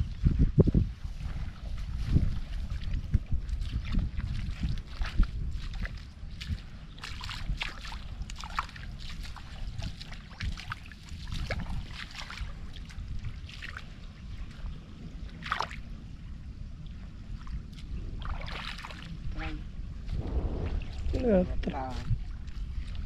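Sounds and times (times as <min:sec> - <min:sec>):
steady low rumble: 0:00.0 - 0:23.0
water rushing and splashing: 0:01.2 - 0:15.9, 0:16.9 - 0:23.0.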